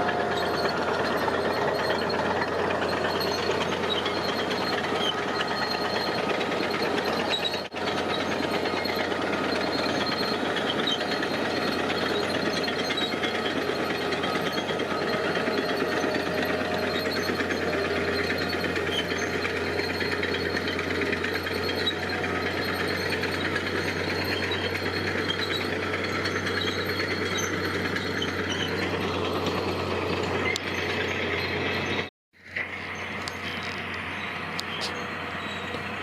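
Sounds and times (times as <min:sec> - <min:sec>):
diesel engine rattling: 0:00.0 - 0:36.0.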